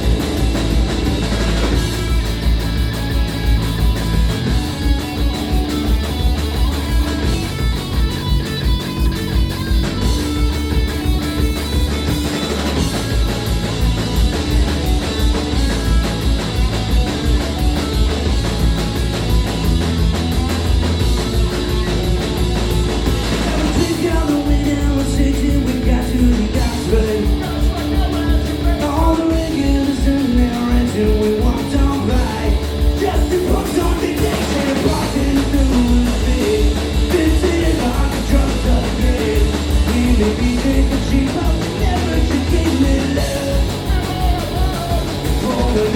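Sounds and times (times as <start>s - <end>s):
bass guitar: 0.0s - 45.9s
distorted electric guitar: 0.0s - 45.9s
drums: 0.0s - 45.9s.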